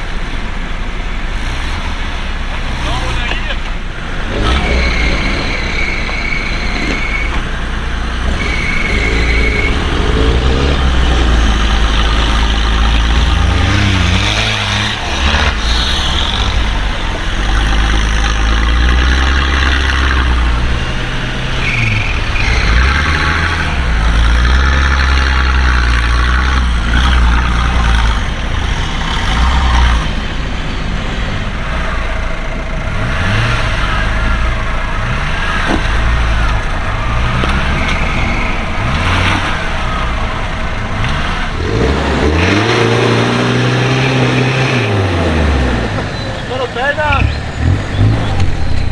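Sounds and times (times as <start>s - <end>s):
vehicle engine under varying load: 0.0s - 48.9s.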